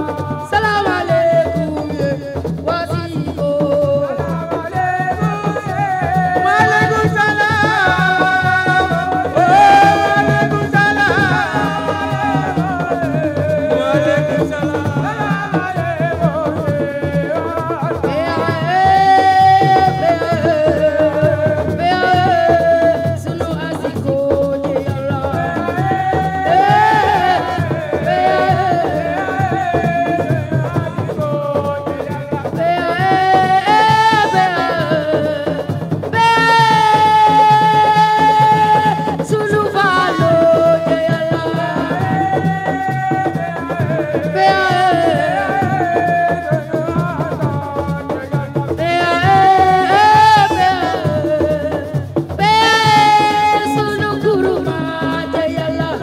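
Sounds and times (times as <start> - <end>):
person singing: 0.0 - 56.0
steady drum beat: 0.0 - 56.0.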